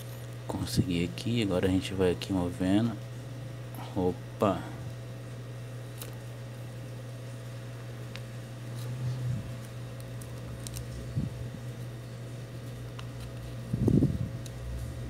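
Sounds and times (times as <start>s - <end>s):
hot air station humming: 0.0s - 15.0s.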